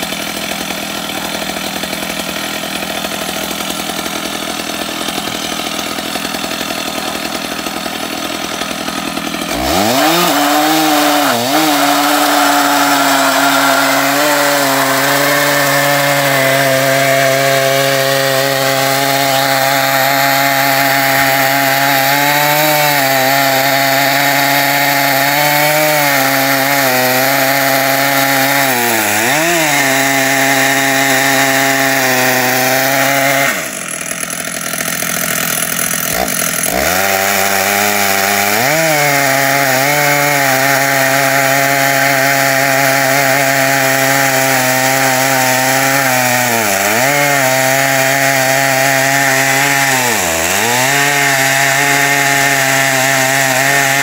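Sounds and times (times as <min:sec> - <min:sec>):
chainsaw cutting log under load: 0:00.0 - 0:54.0.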